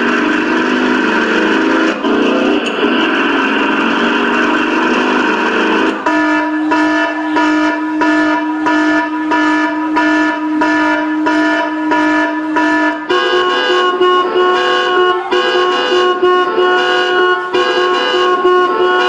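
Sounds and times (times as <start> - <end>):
pulsing vehicle horn: 0.0 - 19.0.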